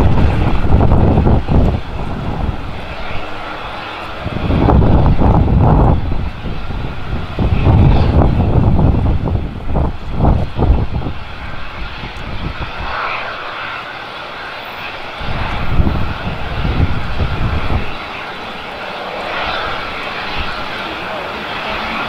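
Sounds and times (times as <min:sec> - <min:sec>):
jet engines whining: 0:00.0 - 0:22.0
wind rumbling on microphone: 0:00.0 - 0:22.0.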